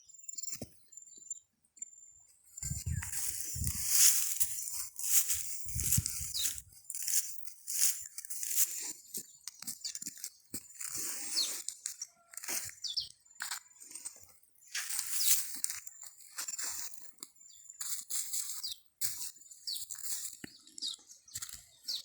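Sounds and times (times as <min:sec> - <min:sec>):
crunching and scraping of soil: 0:02.5 - 0:22.0.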